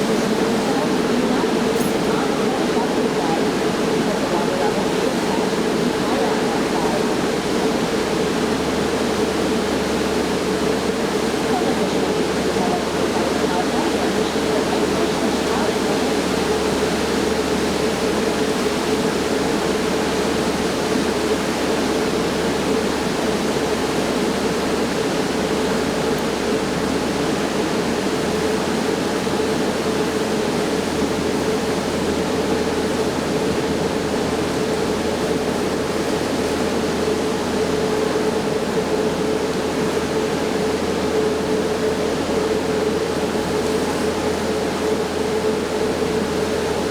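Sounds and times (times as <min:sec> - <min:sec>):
boat engine hum: 0:00.0 - 0:46.9
steady rushing water: 0:00.0 - 0:46.9.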